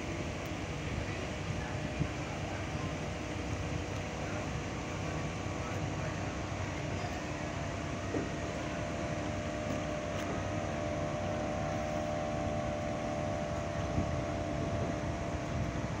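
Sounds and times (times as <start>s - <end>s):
motorboat engine droning: 0.0s - 16.0s
rushing water noise: 0.0s - 16.0s.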